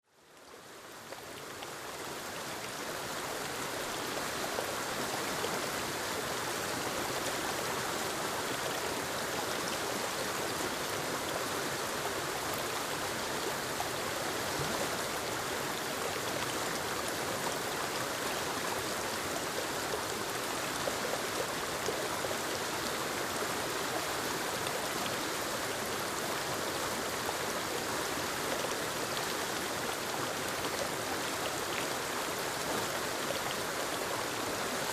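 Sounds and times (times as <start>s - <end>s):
waterfall rushing over rocks: 0.6s - 34.9s.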